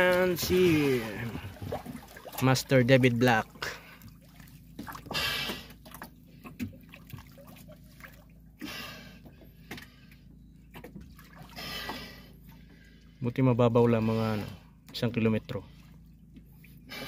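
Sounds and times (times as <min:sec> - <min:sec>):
water swishes: 0:00.0 - 0:14.8
water splashing and sloshing: 0:00.0 - 0:17.0.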